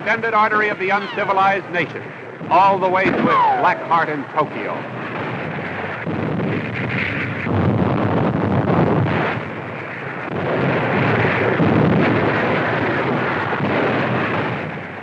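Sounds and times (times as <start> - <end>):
explosions and gunfire: 0.2 - 15.0.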